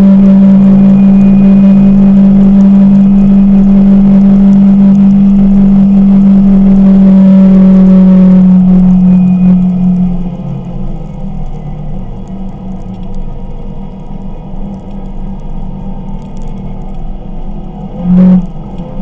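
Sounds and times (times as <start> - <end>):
engine droning while driving: 0.0 - 19.0.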